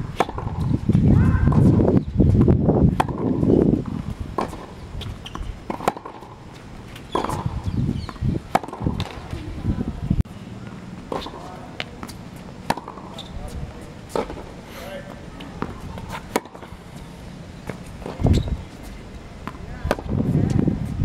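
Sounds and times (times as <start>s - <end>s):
rackets striking tennis ball: 0.1s - 1.8s, 2.9s - 9.4s, 10.6s - 20.3s.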